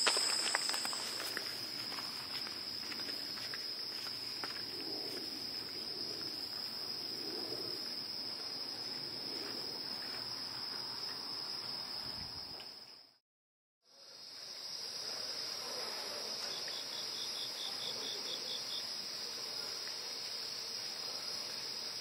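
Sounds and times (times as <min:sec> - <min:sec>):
crickets trilling: 0:00.0 - 0:13.2, 0:13.9 - 0:22.0.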